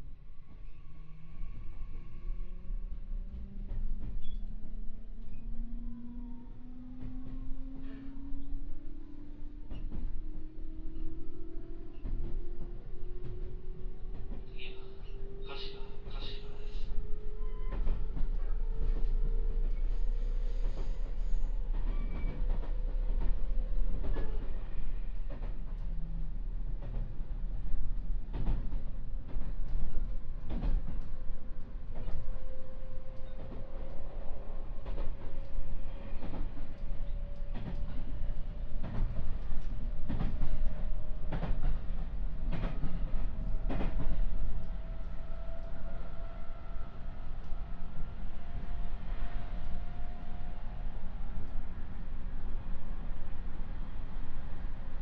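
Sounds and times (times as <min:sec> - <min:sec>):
electric train rumble and whine: 0:00.0 - 0:55.0.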